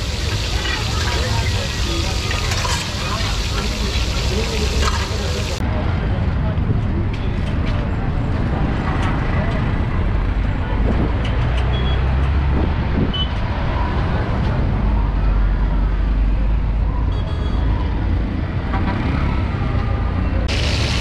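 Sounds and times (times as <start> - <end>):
traffic engines rumbling: 0.0 - 21.0.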